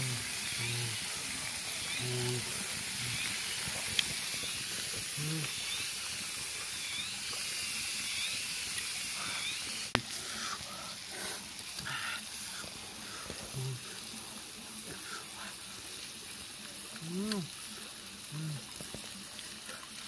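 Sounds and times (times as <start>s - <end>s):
food sizzling on hot stone: 0.0s - 20.0s.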